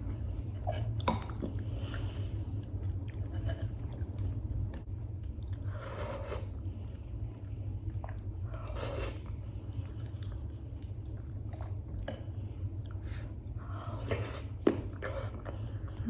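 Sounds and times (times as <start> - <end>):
steady low hum: 0.0 - 16.0
person chewing food: 0.1 - 16.0.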